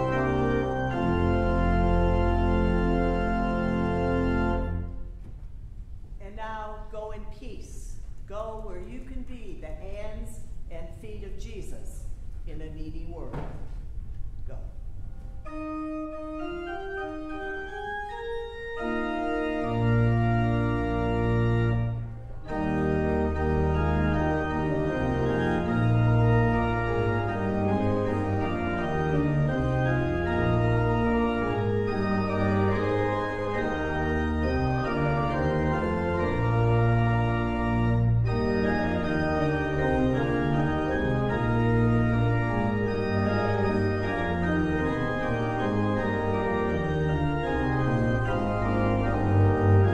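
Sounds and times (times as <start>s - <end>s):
pipe organ playing: 0.0s - 5.3s, 14.8s - 49.9s.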